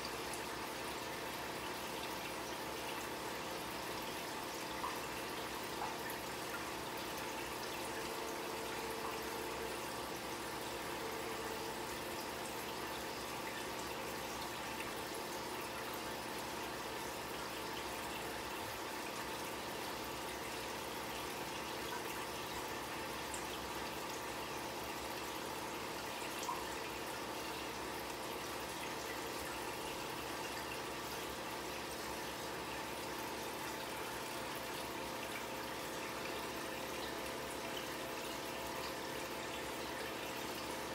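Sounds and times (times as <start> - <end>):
aquarium filter water trickling: 0.0 - 40.9
faint steady hum: 0.0 - 40.9.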